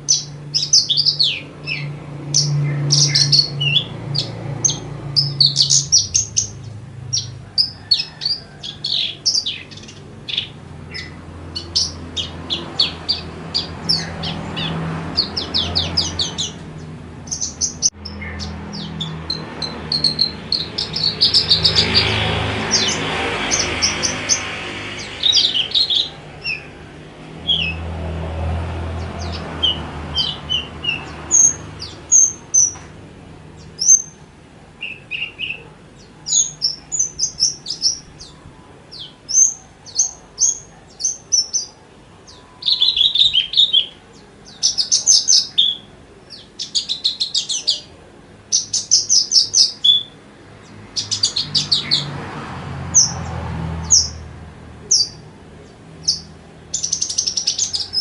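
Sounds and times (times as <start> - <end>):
bush lark singing: 0.0 - 26.8, 29.0 - 32.9, 33.6 - 34.2, 34.8 - 52.1, 54.9 - 58.0.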